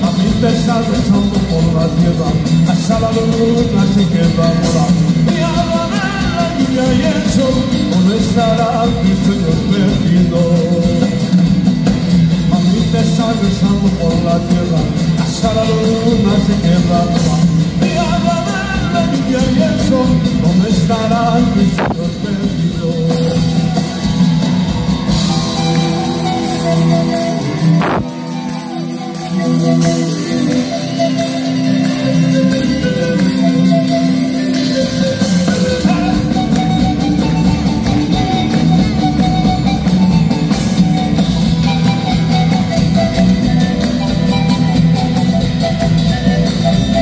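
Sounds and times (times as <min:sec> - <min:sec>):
drum kit: 0:00.0 - 0:47.0
guitars: 0:00.0 - 0:47.0.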